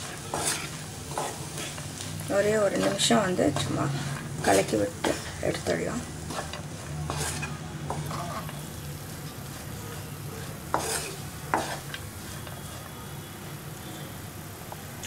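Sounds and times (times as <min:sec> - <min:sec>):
spatula stirring greens in pan: 0:00.0 - 0:13.2
faint sizzle: 0:00.0 - 0:15.0.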